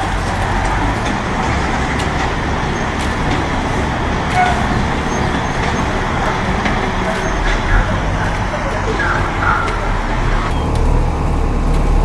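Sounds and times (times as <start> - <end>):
road traffic rumble and hiss: 0.0 - 12.0.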